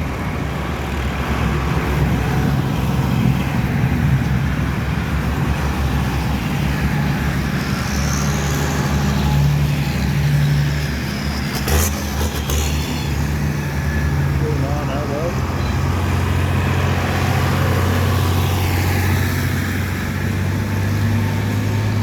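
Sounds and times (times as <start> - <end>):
large vehicle engines droning: 0.0 - 22.0.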